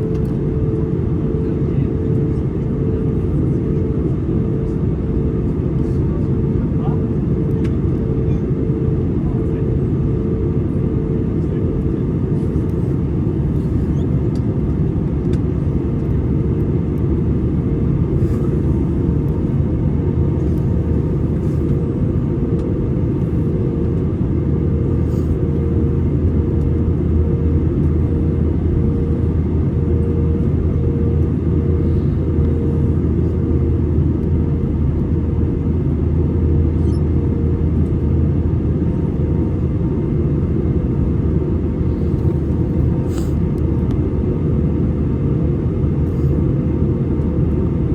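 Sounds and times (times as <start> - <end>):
aircraft cabin engine roar: 0.0 - 47.9.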